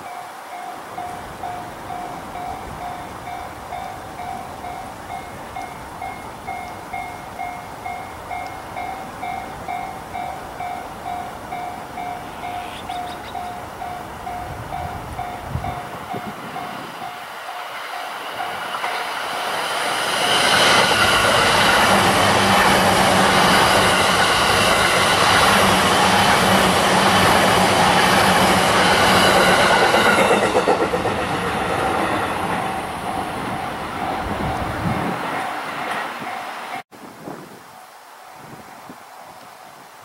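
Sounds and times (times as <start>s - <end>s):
electric train passing: 0.0s - 36.9s.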